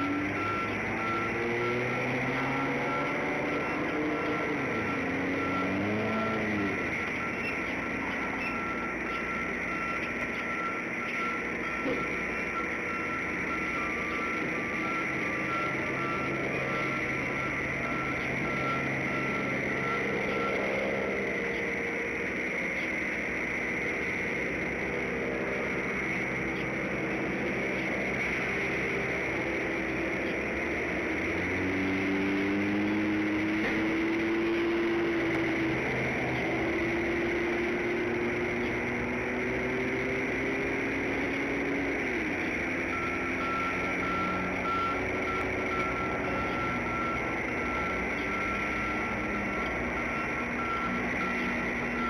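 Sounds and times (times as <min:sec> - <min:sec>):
heavy vehicle engine running: 0:00.0 - 0:52.0
truck reversing alarm beeping: 0:00.0 - 0:52.0.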